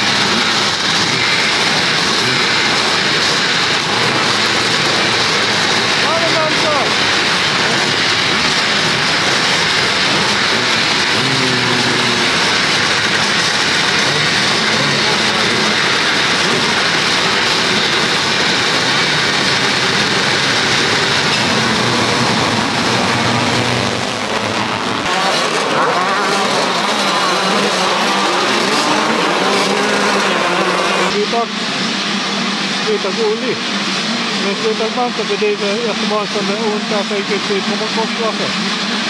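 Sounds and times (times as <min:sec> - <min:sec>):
motocross motorcycles running: 0:00.0 - 0:39.0.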